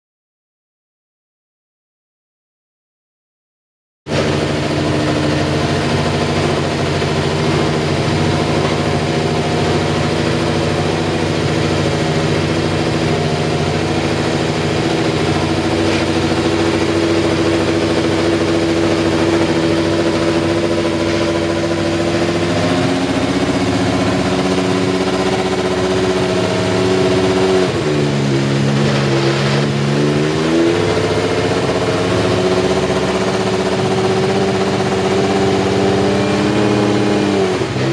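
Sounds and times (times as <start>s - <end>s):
racing car engine idling: 4.1s - 37.9s.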